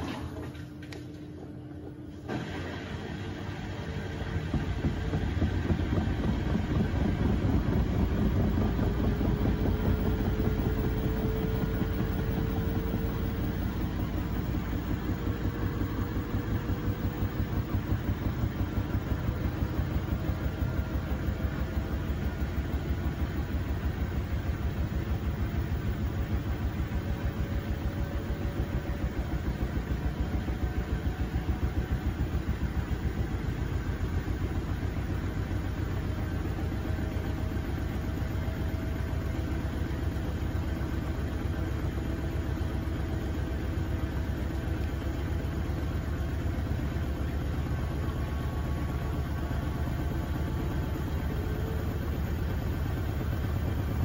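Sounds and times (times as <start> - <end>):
faint motor whine: 0.0 - 54.0
washing machine drum spinning: 0.0 - 54.0.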